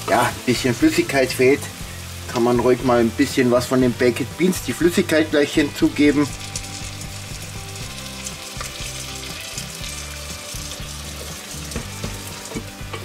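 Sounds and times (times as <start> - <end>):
food sizzling in a pot: 0.0 - 13.0
quiet background music: 0.0 - 13.0.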